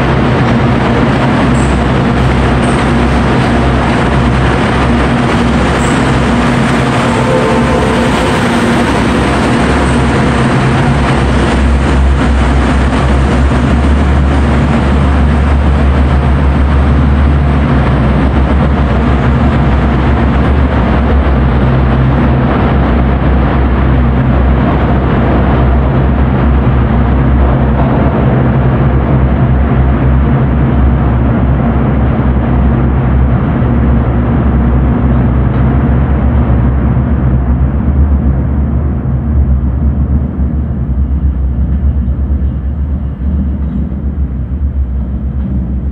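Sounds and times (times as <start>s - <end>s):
diesel locomotive engine drone: 0.0s - 45.9s.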